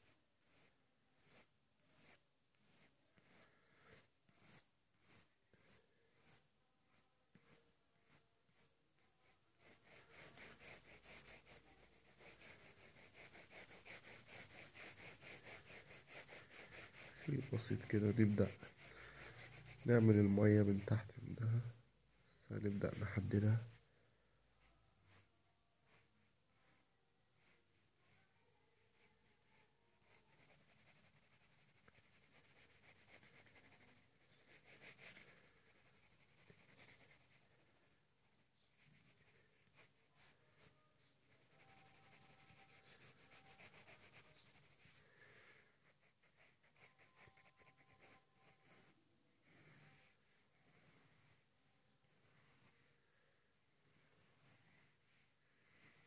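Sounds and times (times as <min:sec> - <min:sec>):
pencil scratching on paper: 0:00.0 - 0:21.8, 0:22.6 - 0:23.8, 0:24.6 - 0:51.5, 0:52.1 - 0:52.9.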